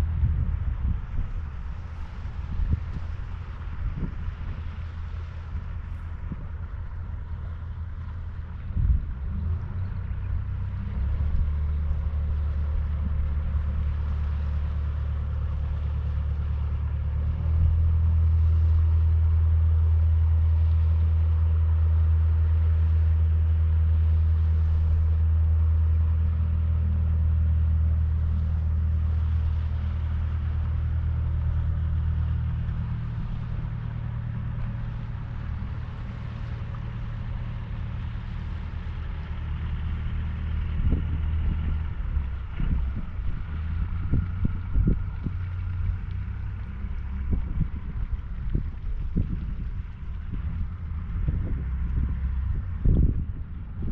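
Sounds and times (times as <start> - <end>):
boat motor humming: 0.0 - 53.9.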